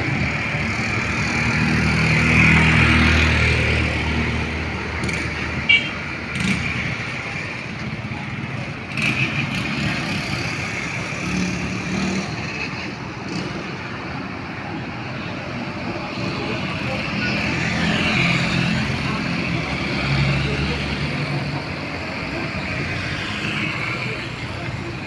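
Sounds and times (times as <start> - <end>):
tyre and road noise: 0.0 - 25.0.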